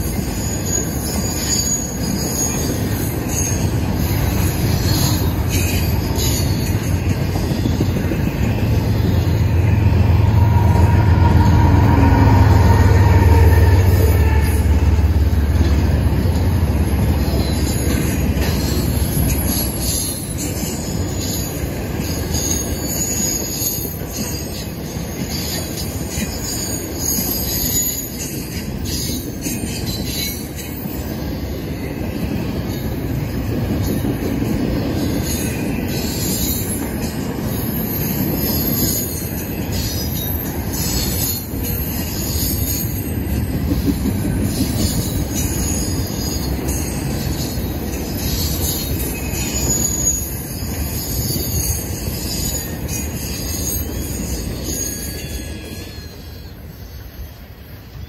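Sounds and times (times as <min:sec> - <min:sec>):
wheel squeal: 0:00.0 - 0:31.9, 0:35.0 - 0:57.4
freight train wheels rumbling: 0:00.0 - 0:58.0.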